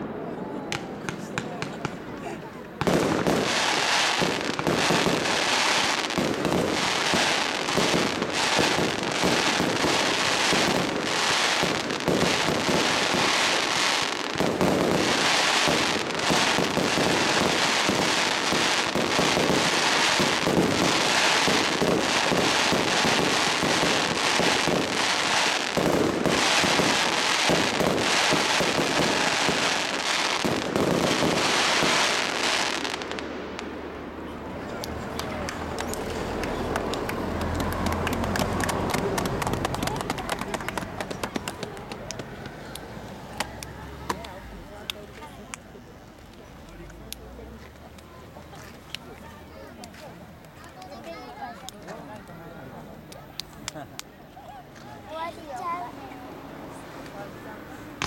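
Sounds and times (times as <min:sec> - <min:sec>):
fireworks barrage crackling: 0:00.0 - 0:54.2.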